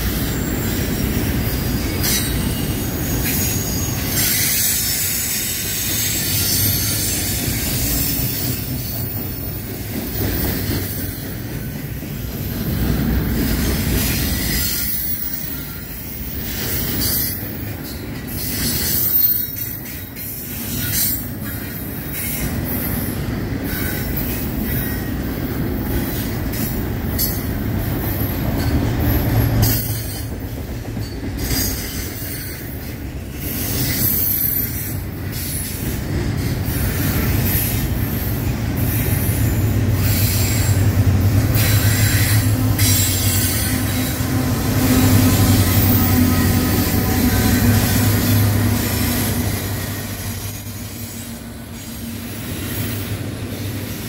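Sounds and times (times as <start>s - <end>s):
diesel locomotive drone: 0.0s - 54.0s
railcars rumbling and clattering: 0.0s - 54.0s
train wheels squealing: 0.0s - 54.0s.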